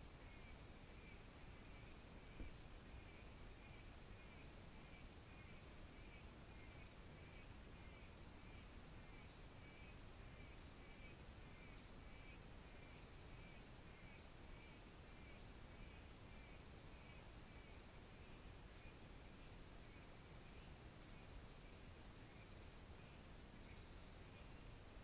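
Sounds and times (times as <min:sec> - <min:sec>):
soft steady hiss: 0:00.0 - 0:25.0.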